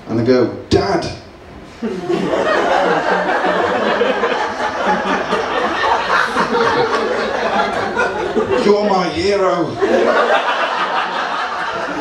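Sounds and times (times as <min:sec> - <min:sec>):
audience laughing: 0:01.8 - 0:12.0.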